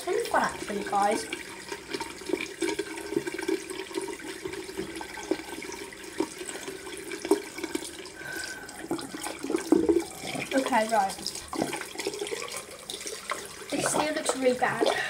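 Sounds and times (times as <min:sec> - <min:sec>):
sink tap running: 0:00.0 - 0:15.0
water splashing and dripping: 0:00.0 - 0:15.0.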